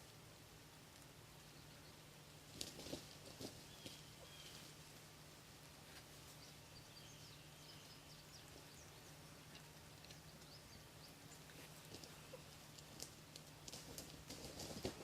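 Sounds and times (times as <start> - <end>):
small birds chirping: 0.0 - 5.0, 5.6 - 15.0.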